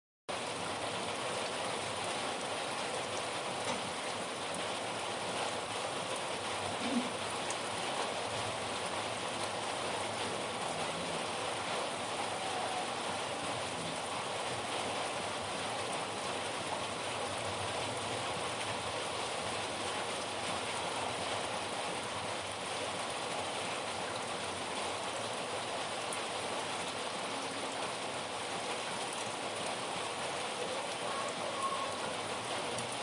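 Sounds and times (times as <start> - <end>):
steady rain: 0.3 - 33.0.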